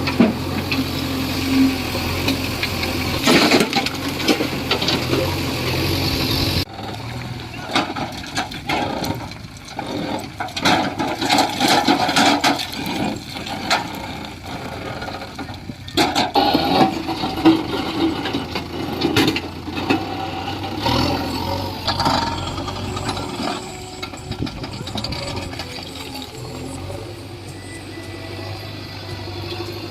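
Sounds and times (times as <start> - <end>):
diesel engine under load: 0.0 - 29.9.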